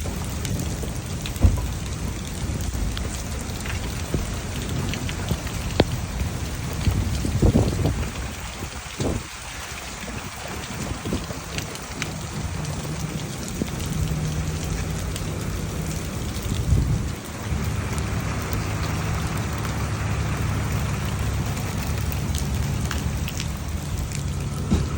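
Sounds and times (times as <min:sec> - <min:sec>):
drops or hail ticking: 0:00.0 - 0:24.9
heavy rain pouring: 0:00.0 - 0:24.9.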